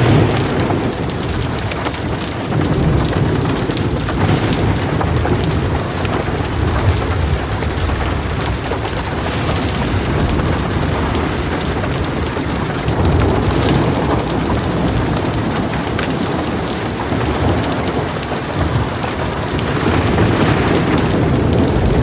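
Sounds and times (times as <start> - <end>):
heavy rain on a metal roof: 0.0 - 22.0
thunder rumbling: 0.0 - 22.0.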